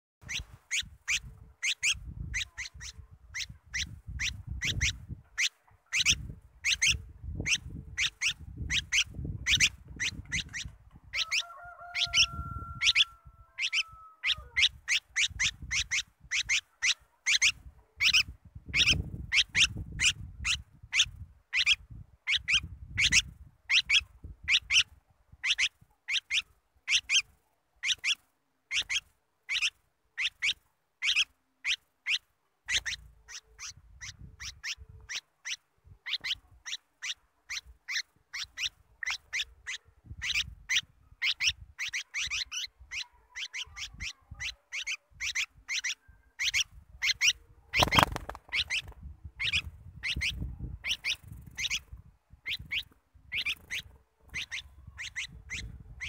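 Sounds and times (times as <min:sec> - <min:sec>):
bird giving sharp high calls: 0:00.2 - 0:56.0.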